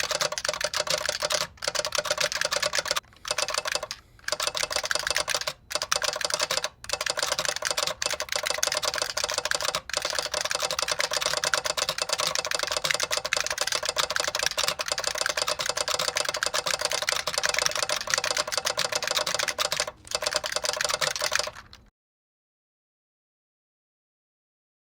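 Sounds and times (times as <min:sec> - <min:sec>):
fast keyboard typing: 0:00.0 - 0:21.9.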